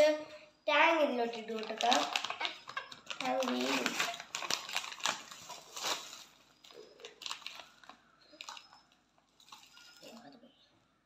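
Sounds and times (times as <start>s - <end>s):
plastic pouch crinkling: 1.4s - 10.3s.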